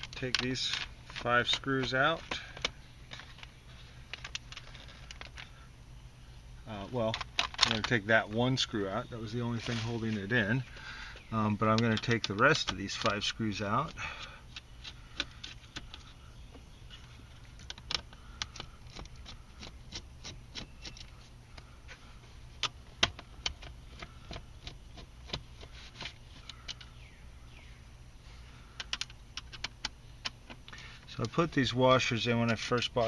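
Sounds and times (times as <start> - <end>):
faint low hum: 0.0 - 33.0.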